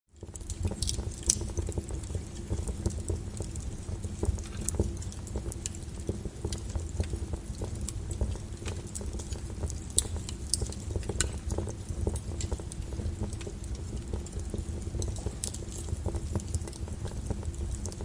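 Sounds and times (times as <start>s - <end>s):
fire crackling: 0.1s - 18.0s.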